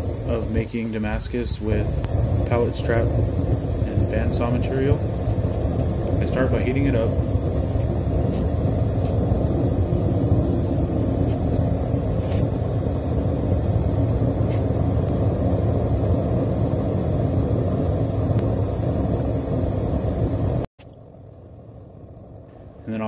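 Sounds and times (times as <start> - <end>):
forge burner rushing: 0.0 - 23.0.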